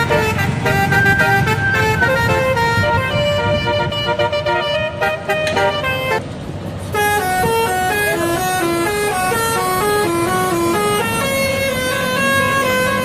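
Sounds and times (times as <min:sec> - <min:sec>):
air horns playing a tune: 0:00.0 - 0:06.2, 0:06.9 - 0:13.0
low rumble of bus: 0:00.0 - 0:13.0.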